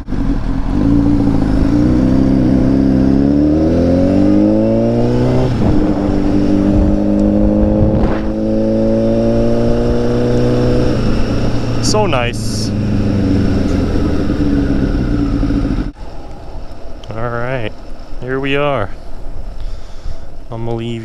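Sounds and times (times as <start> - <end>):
motorcycle engine accelerating: 0.0 - 18.1.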